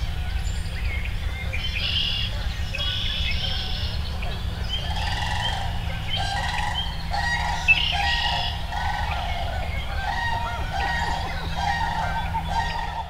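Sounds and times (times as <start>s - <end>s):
birds calling and chirping: 0.0s - 13.0s
steady low rumble: 0.0s - 13.0s.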